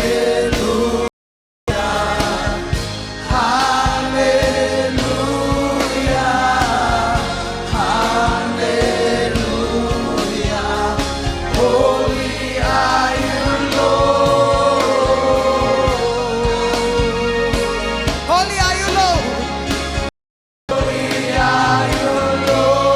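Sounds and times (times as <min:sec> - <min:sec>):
band with steady drum beat: 0:00.0 - 0:01.1, 0:01.7 - 0:20.1, 0:20.7 - 0:22.9
gospel choir singing: 0:00.0 - 0:01.1, 0:01.7 - 0:18.3, 0:20.7 - 0:22.9.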